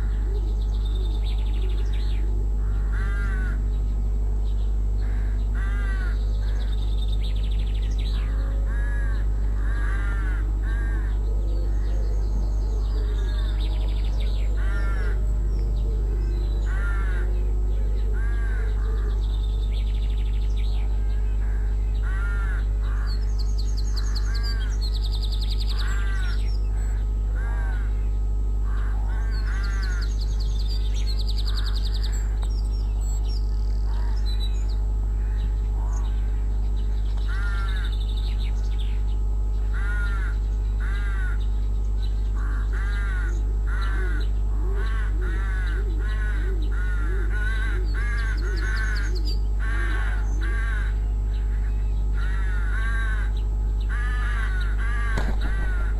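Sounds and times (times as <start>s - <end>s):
rooks cawing: 0.0s - 3.9s, 4.8s - 55.9s
low electrical hum: 0.0s - 55.9s
small birds singing: 0.0s - 55.9s.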